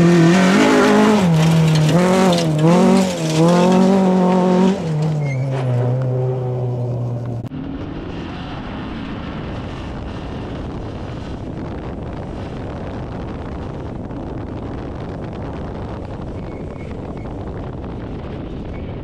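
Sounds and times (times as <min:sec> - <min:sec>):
rally car engine: 0:00.0 - 0:19.0
wind on microphone: 0:00.0 - 0:19.0.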